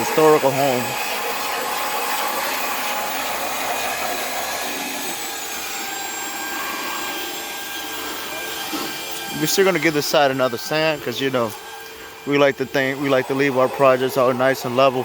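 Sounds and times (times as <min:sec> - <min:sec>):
power sander on wood: 0:00.0 - 0:15.0.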